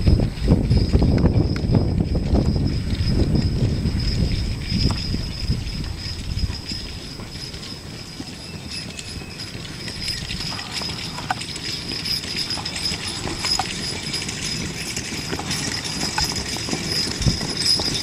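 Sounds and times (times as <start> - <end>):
horse hooves clip-clopping on pavement: 0.0 - 18.0.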